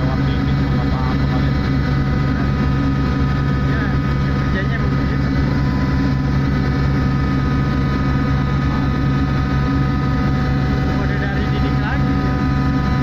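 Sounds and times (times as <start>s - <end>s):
machinery whines: 0.0s - 13.0s
ship engine low drone: 0.0s - 13.0s.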